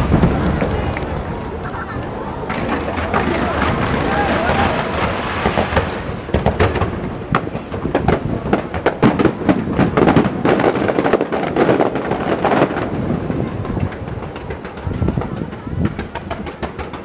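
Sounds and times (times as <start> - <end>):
fireworks cracks and pops: 0.0 - 17.0.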